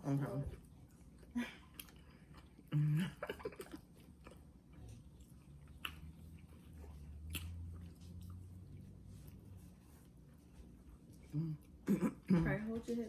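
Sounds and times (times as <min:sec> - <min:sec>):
person chewing food: 0:00.5 - 0:12.3.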